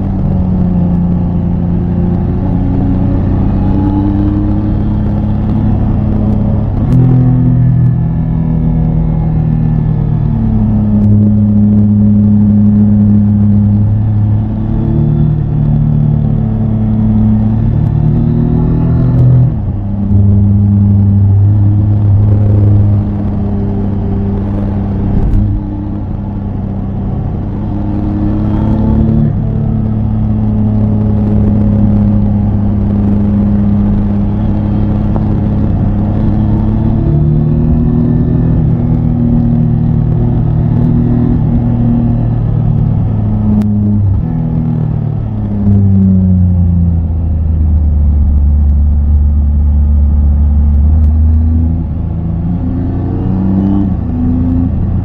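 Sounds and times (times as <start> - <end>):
motorcycle engine running: 0.0 - 52.6.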